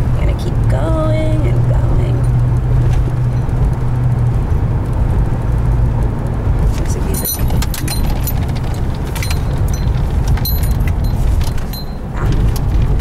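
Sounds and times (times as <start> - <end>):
car cabin rumble: 0.0 - 13.0
small clicks and rattles: 2.2 - 13.0.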